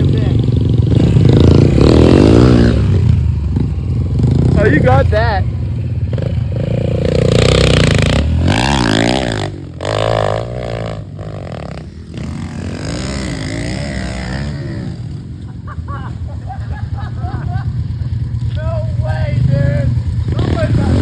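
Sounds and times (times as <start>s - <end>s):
pit bike engine revving: 0.0s - 15.5s, 16.4s - 21.0s.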